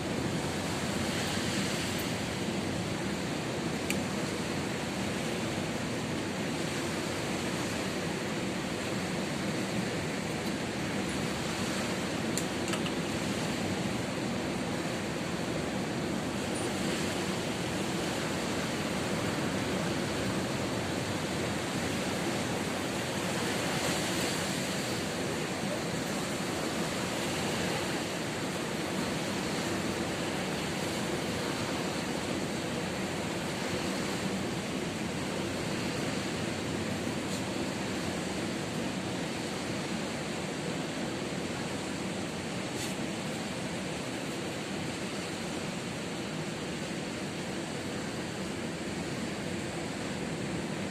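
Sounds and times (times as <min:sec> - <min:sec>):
ocean waves breaking: 0:00.0 - 0:50.9.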